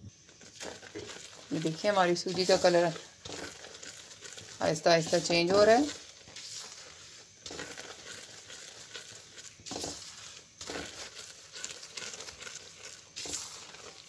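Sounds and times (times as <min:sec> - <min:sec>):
semolina sizzling in oil: 0:00.0 - 0:14.0
spoon scraping a pan: 0:00.3 - 0:14.0.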